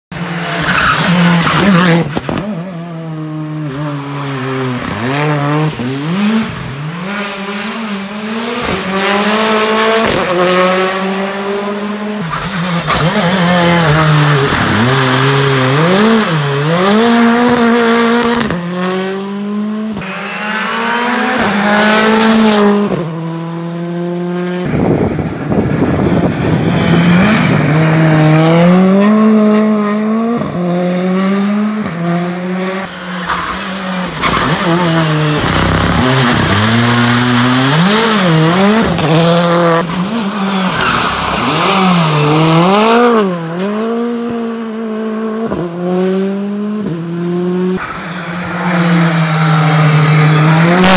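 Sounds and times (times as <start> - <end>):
rally car engine revving: 0.1 - 50.9.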